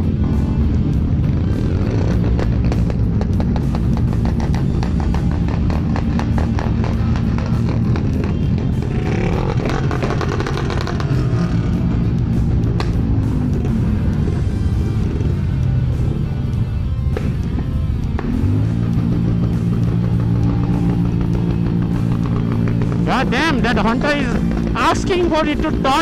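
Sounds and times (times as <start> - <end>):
exhaust popping and banging: 0.0 - 26.0
motorcycle engine revving: 0.0 - 26.0
motorcycle engines droning: 0.0 - 26.0.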